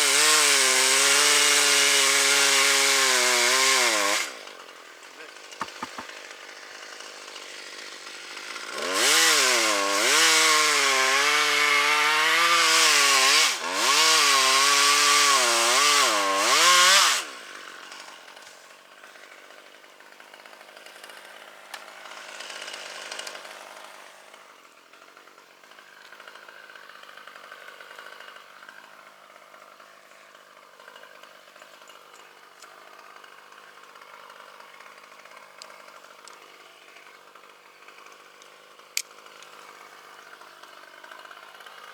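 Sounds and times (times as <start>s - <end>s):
chainsaw revving and cutting: 0.0s - 41.9s.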